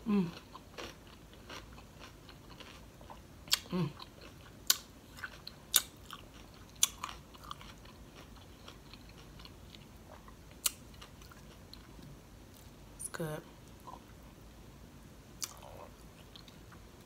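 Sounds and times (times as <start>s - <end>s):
food crunching: 0.2s - 12.8s, 15.4s - 16.9s.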